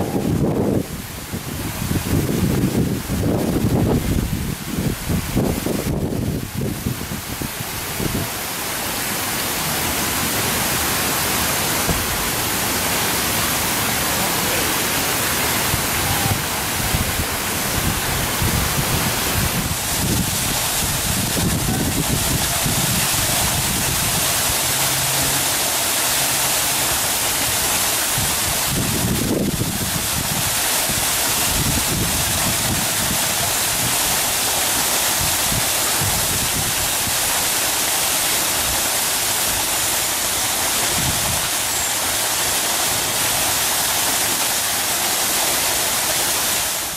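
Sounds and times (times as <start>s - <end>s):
loud rushing hiss: 5.4s - 46.9s.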